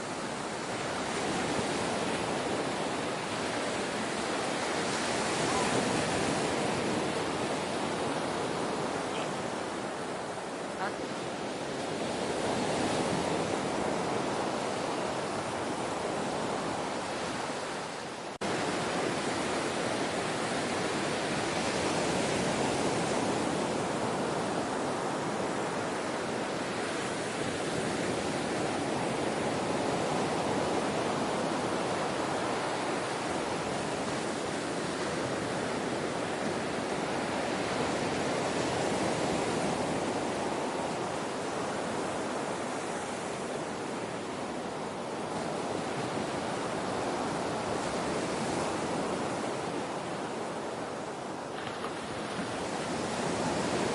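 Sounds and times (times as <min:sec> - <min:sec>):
ocean waves surf: 0:00.0 - 0:53.9.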